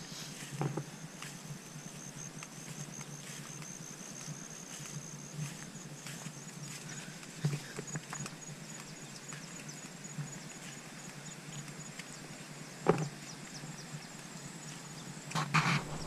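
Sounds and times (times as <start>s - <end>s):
footsteps on dirt path: 0.0s - 16.0s
rustle: 0.0s - 16.0s.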